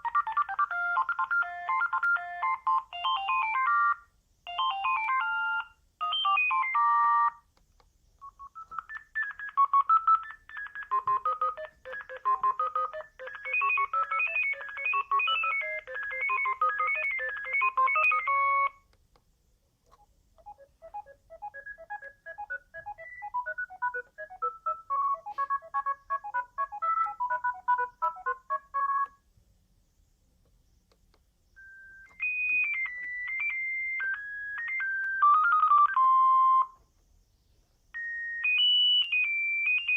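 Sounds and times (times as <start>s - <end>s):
phone ringtone melodies: 0.0s - 7.4s, 8.2s - 18.8s, 20.4s - 29.2s, 31.6s - 36.8s, 38.0s - 39.9s.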